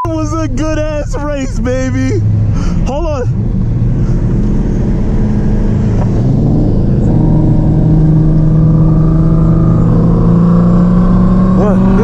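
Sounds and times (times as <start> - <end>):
car engine drone from cabin: 0.0 - 12.0
road noise: 0.0 - 12.0.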